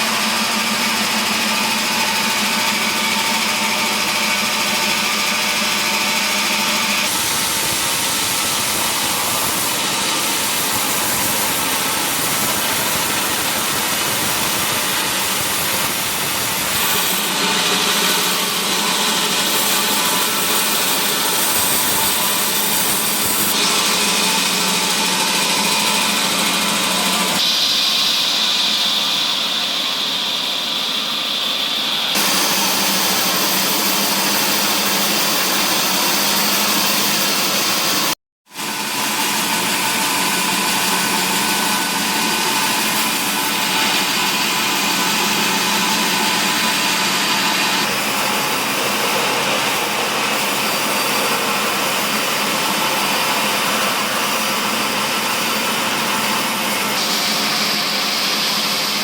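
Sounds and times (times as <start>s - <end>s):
wood-cutting machinery running: 0.0s - 59.0s.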